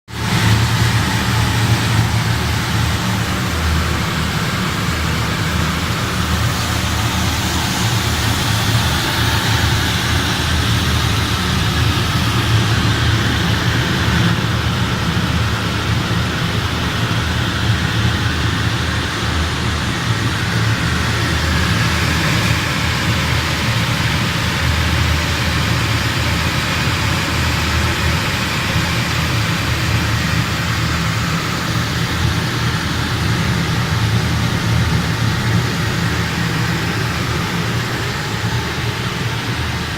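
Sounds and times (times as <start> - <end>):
burner flame and fan rumble: 0.1 - 39.9.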